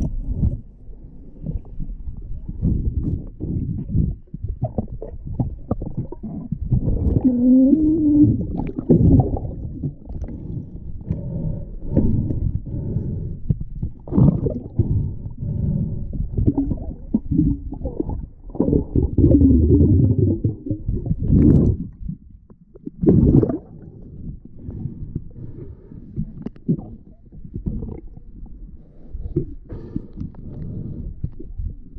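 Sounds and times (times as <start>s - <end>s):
hand handling stones underwater: 0.0s - 31.9s
muffled underwater rumbling: 0.0s - 31.9s.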